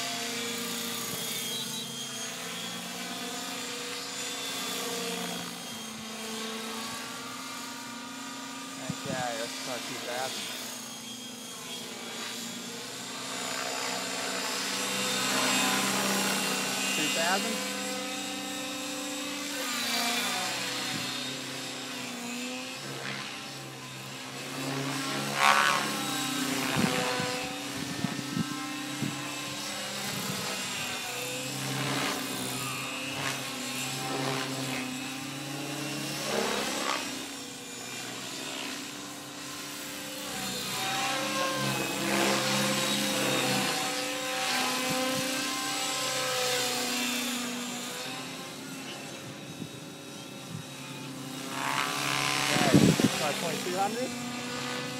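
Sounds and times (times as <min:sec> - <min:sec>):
model helicopter rotor whine: 0:00.0 - 0:54.9.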